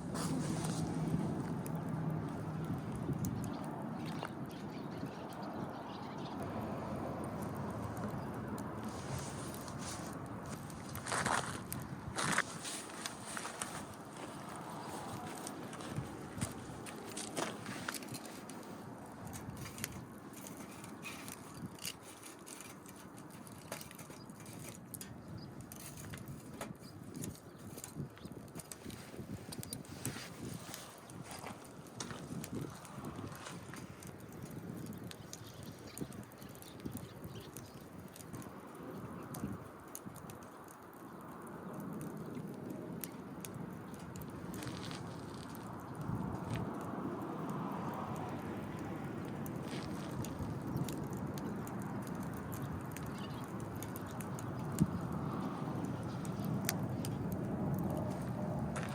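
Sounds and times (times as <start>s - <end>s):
wood fire crackling: 0.0s - 5.8s, 6.4s - 58.9s.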